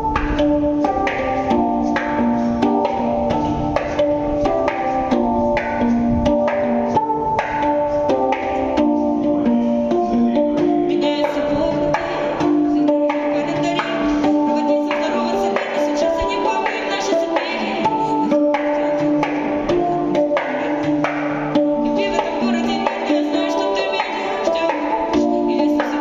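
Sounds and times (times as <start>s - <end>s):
handpan melody: 0.0s - 26.0s.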